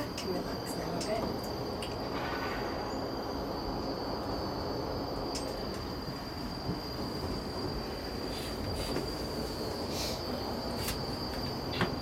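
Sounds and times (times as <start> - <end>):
cable car rumble and hiss: 0.0 - 12.0.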